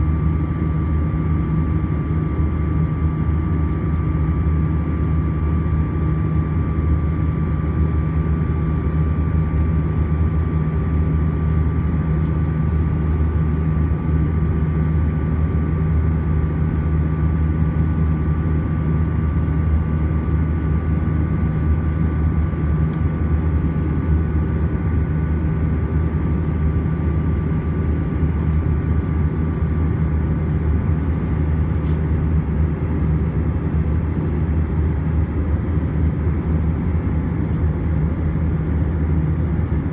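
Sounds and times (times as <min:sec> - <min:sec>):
engines and airflow rumbling: 0:00.0 - 0:39.9.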